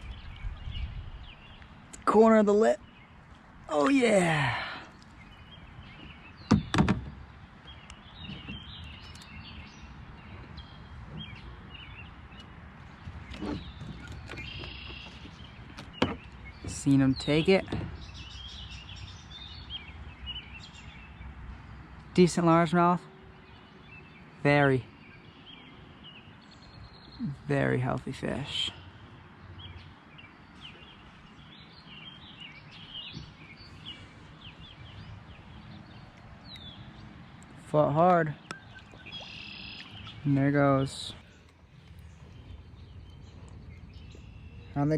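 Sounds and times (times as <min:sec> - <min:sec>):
outdoor background noise: 0:00.0 - 0:44.9
small birds chirping: 0:00.0 - 0:44.9.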